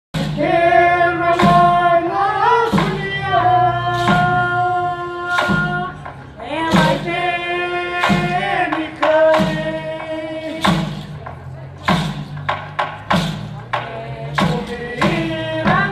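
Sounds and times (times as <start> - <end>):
struck beat: 0.2 - 15.9.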